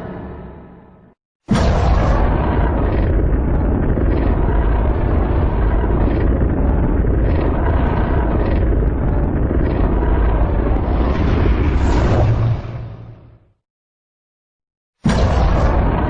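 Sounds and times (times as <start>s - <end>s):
monster mechanical rumble: 0.0s - 13.5s, 15.1s - 16.0s.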